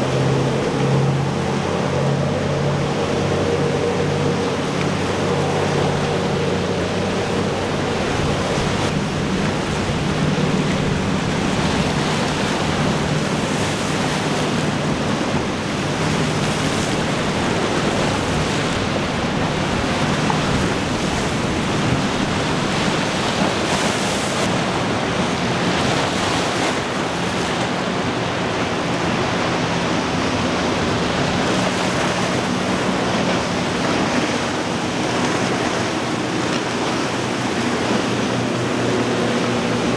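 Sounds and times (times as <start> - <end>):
boat engines humming: 0.0 - 39.9
waves breaking: 0.0 - 39.9
wind on microphone: 0.0 - 39.9.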